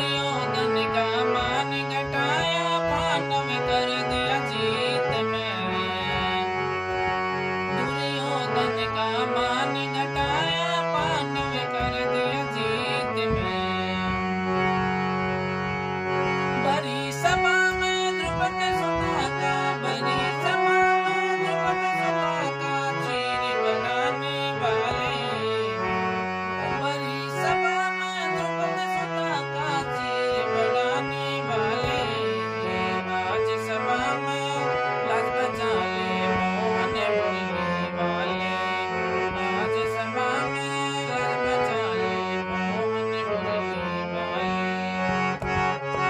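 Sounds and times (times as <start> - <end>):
harmonium melody: 0.0 - 46.0.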